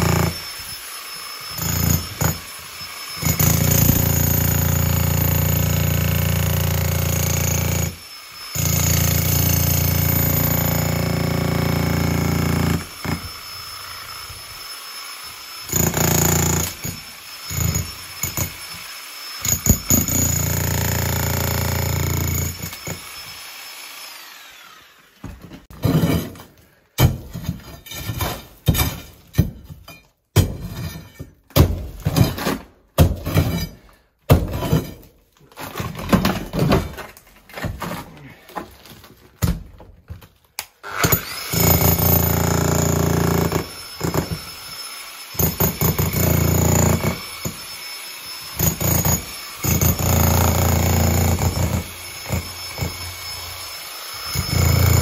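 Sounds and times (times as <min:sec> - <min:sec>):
hammer drill breaking concrete: 0:00.0 - 0:38.0, 0:40.8 - 0:55.0.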